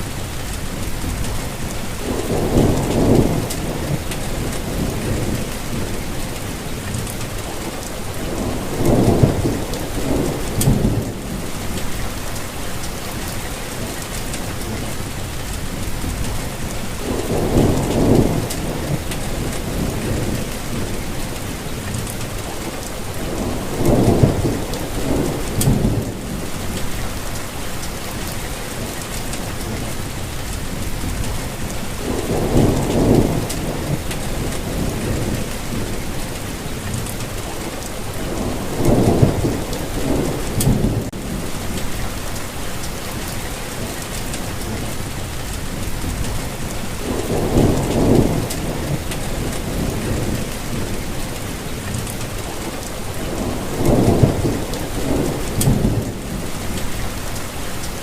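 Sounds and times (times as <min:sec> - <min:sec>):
rainfall hiss: 0:00.0 - 0:58.0.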